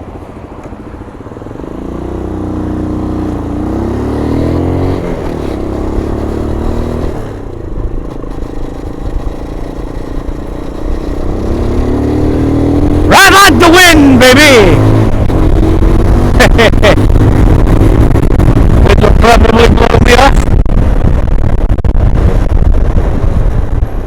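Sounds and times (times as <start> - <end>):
motorcycle engine revving: 1.2 - 24.0.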